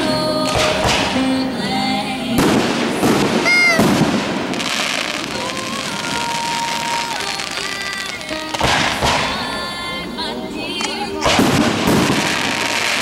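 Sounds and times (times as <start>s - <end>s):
fireworks bangs and crackling: 0.0s - 1.6s, 2.3s - 9.7s, 10.8s - 13.0s
voices: 0.0s - 13.0s.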